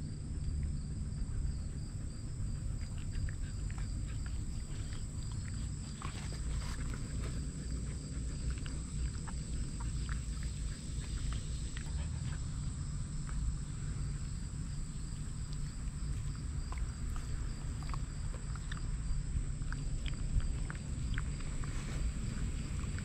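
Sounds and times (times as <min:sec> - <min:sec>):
constant low rumble: 0:00.0 - 0:23.0
dog chewing watermelon: 0:00.1 - 0:23.0.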